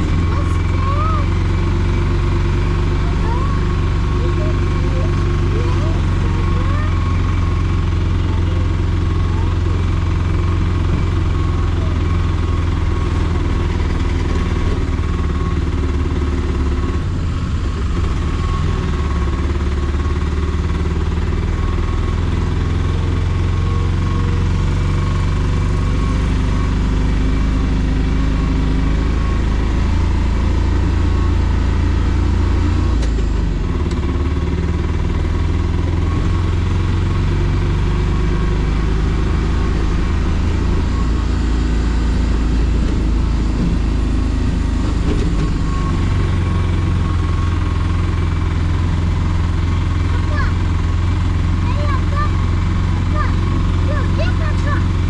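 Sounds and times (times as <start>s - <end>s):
auto rickshaw engine running: 0.0s - 55.0s.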